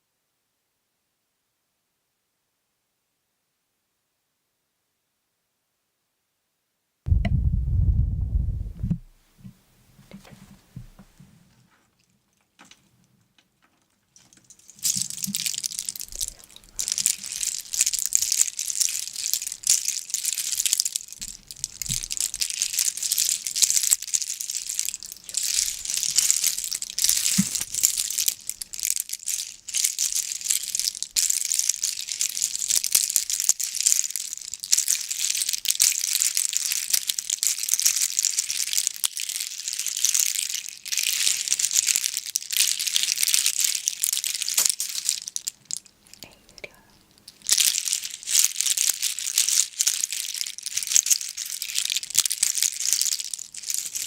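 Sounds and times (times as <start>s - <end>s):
dense crinkling and crackling: 8.9s - 54.0s.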